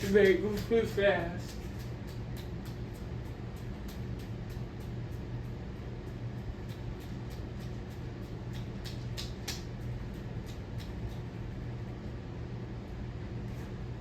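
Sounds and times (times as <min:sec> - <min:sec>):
ceiling fan motor humming: 0:00.0 - 0:14.0.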